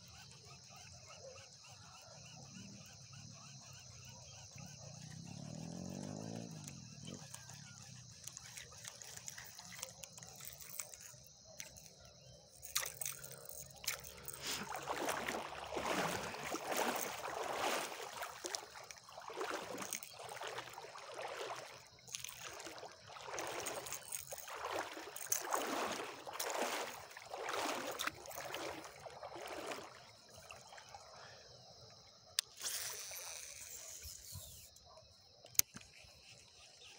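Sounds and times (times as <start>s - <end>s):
water lapping at shore: 0.0s - 36.9s.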